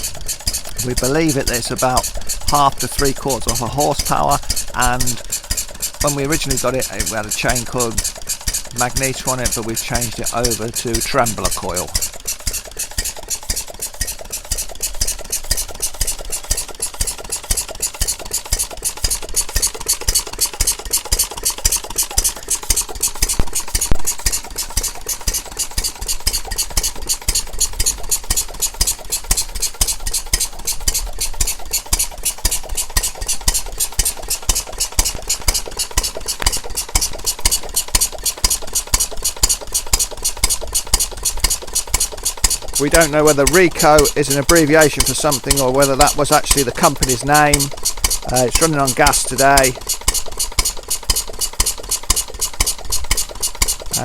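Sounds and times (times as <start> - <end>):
stationary gas engine running: 0.0 - 54.0.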